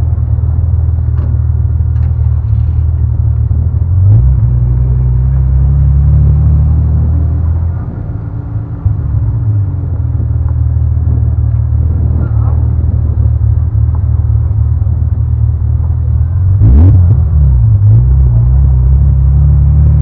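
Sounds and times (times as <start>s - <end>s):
car engine and exhaust rumbling: 0.0s - 20.0s.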